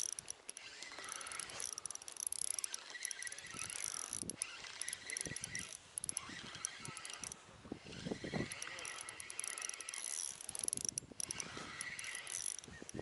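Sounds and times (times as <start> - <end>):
fishing reel ticking whir: 0.0 - 13.0.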